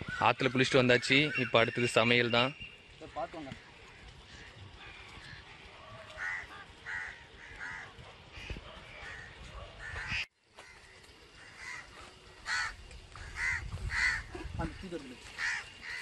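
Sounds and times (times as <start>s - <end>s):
crows cawing: 3.0s - 16.0s.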